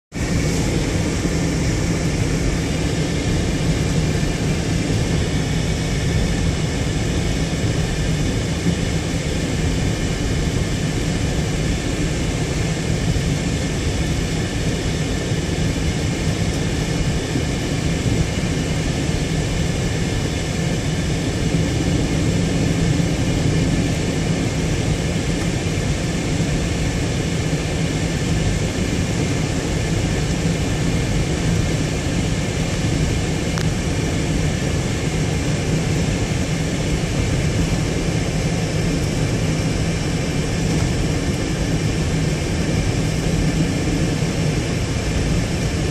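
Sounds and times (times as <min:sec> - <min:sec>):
car cabin engine and tyre drone: 0:00.1 - 0:45.9.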